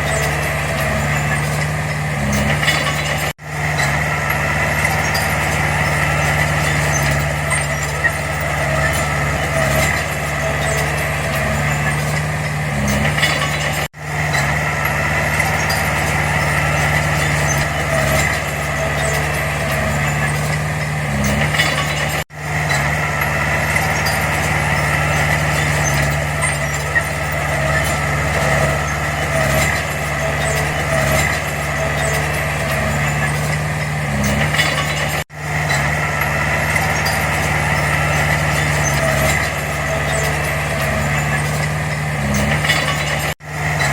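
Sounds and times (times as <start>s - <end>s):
diesel engine drone: 0.0s - 43.9s.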